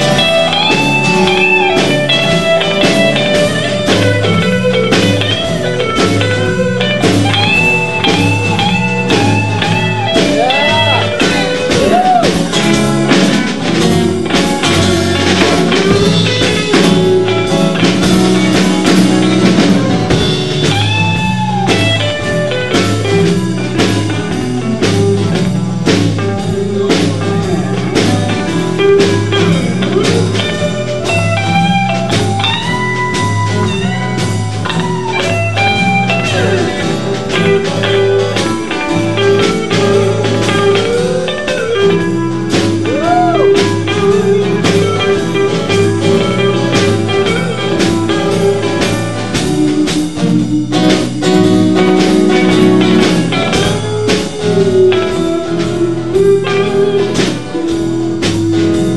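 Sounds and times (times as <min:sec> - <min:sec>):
bass guitar line: 0:00.0 - 0:58.9
drum kit beat: 0:00.0 - 0:58.9
electric lead guitar bending notes: 0:00.0 - 0:58.9.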